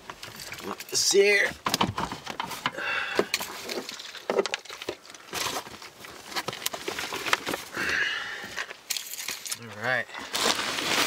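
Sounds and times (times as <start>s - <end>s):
camping gear being handled: 0.0s - 11.0s.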